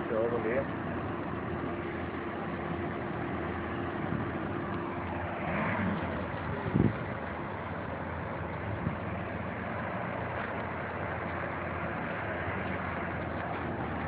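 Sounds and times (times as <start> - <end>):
car engines running at low revs: 0.0 - 14.0.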